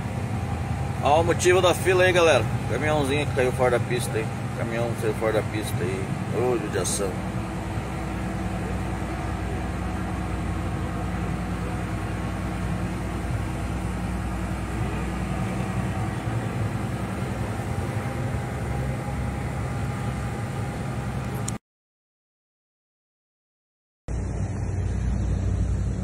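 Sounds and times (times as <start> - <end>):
truck engine hum: 0.0 - 21.6, 24.1 - 26.0.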